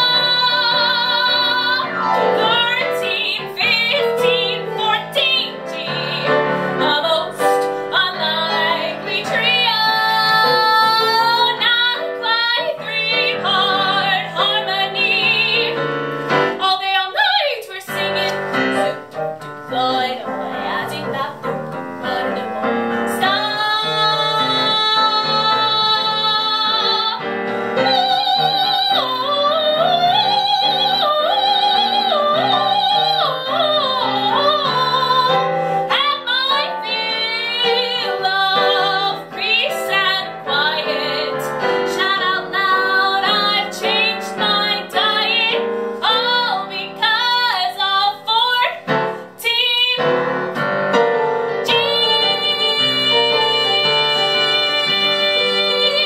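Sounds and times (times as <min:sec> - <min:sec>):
woman singing with vibrato: 0:00.0 - 0:50.3, 0:51.6 - 0:56.0
piano accompaniment: 0:00.0 - 0:56.0.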